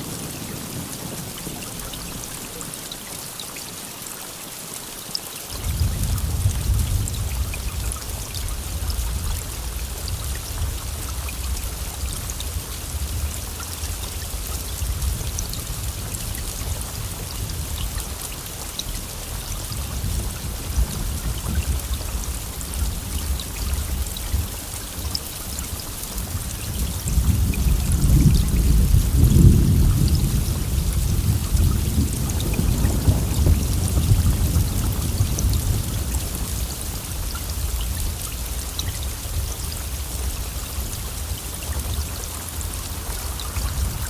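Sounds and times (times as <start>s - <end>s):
heavy rain hissing: 0.0s - 44.0s.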